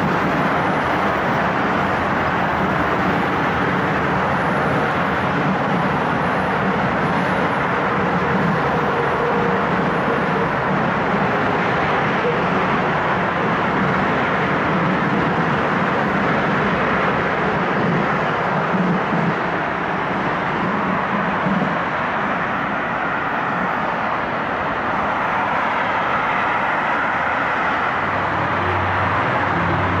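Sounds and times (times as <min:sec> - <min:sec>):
freight train wheels rumbling: 0:00.0 - 0:30.0
road traffic: 0:00.0 - 0:30.0.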